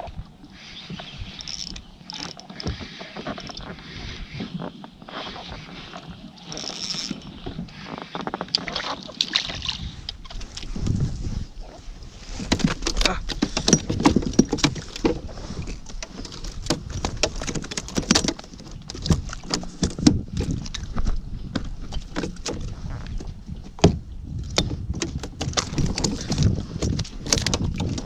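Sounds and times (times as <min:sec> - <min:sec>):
knocks and clicks on a kayak: 0:00.0 - 0:11.4, 0:12.2 - 0:28.0.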